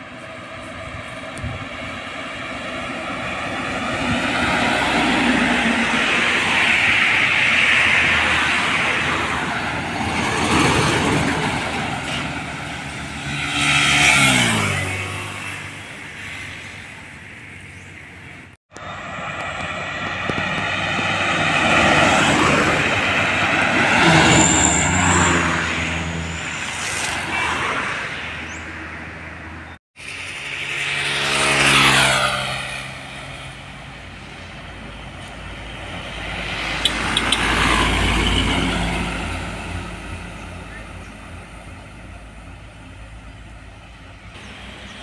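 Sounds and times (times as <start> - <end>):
diesel trucks passing: 0.0 - 45.0.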